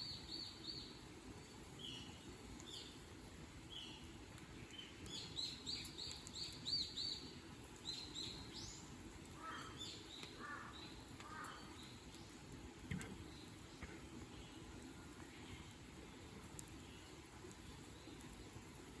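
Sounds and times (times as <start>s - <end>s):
low background noise: 0.0s - 19.0s
small birds chirping: 0.0s - 19.0s.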